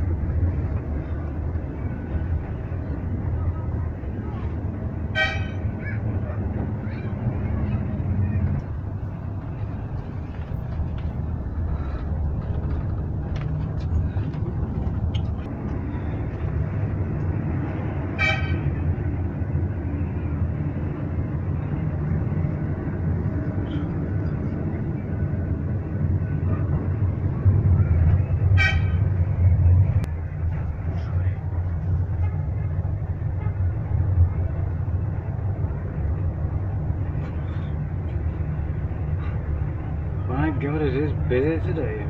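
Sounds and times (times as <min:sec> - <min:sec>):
passing traffic rumble: 0:00.0 - 0:42.0.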